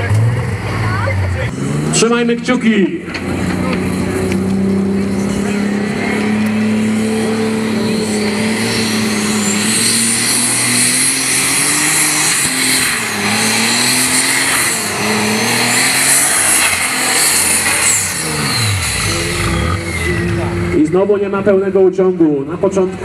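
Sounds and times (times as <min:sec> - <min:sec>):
tractor engine at full power: 0:00.0 - 0:23.0
high whine: 0:02.0 - 0:22.0.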